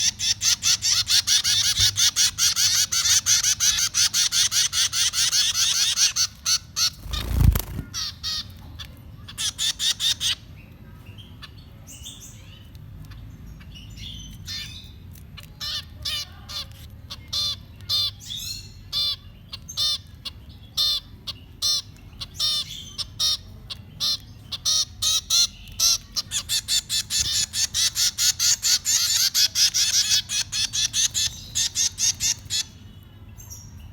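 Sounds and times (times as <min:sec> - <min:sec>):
baby birds chirping: 0:00.0 - 0:33.9.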